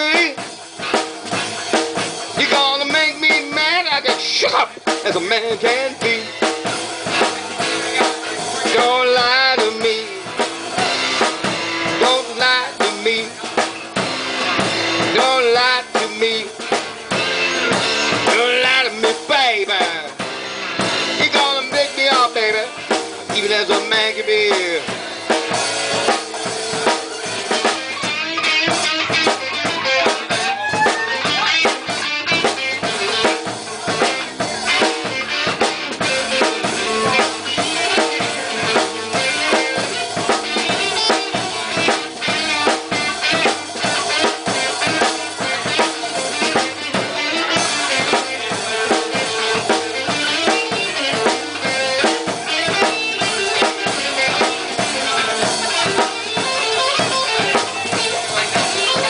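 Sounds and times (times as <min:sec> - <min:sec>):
blues band playing: 0:00.0 - 0:59.0
drum kit beat: 0:00.0 - 0:59.0.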